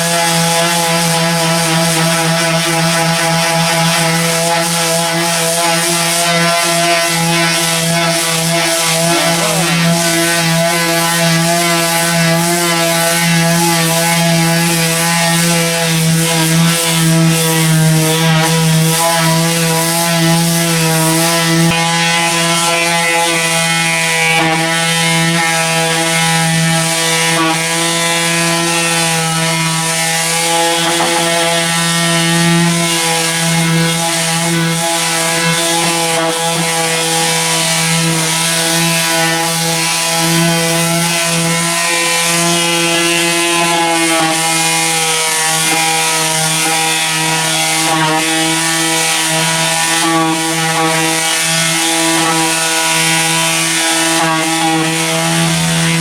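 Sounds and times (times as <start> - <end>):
power sander on car bodywork: 0.0 - 56.0.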